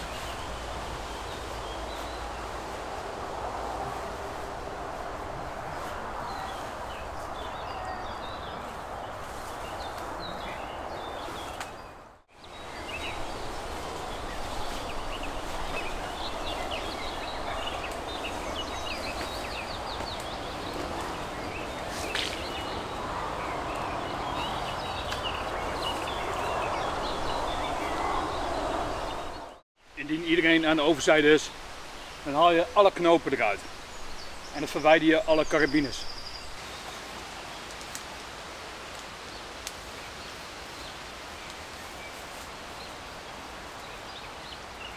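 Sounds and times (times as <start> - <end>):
small birds chirping: 0.0 - 4.2, 5.6 - 38.0
outdoor background hiss: 0.0 - 44.9.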